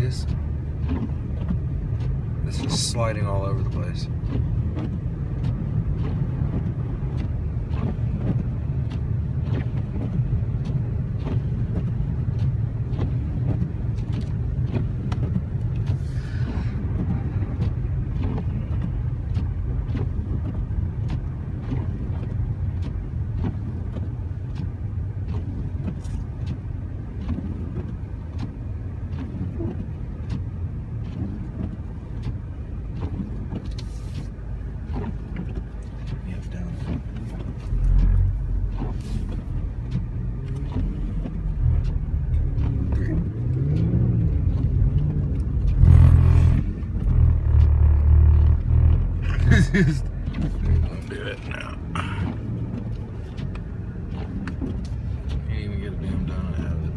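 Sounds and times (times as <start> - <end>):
engine and tyre rumble: 0.0 - 56.9.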